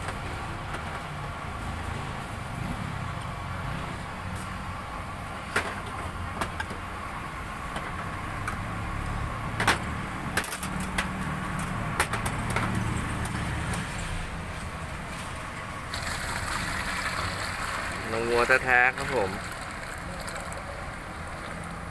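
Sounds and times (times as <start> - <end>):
road traffic rumble: 0.0 - 21.9.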